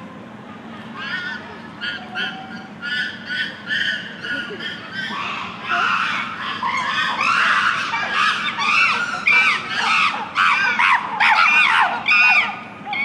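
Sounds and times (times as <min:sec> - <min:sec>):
chimpanzees screaming: 0:00.8 - 0:13.0.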